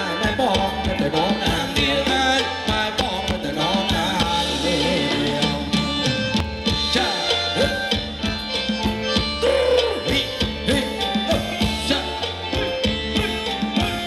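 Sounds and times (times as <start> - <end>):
drums beating: 0.0 - 14.0
live band music: 0.0 - 14.0.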